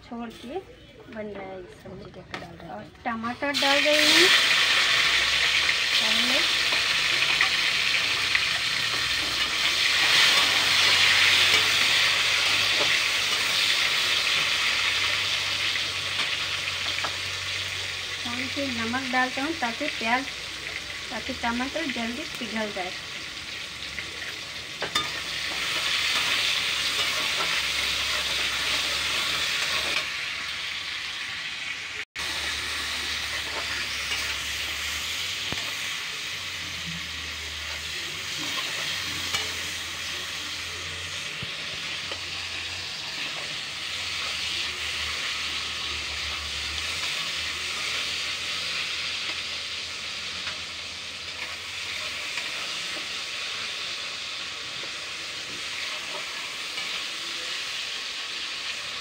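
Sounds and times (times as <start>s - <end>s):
tomatoes sizzling in hot oil: 0.0s - 59.0s.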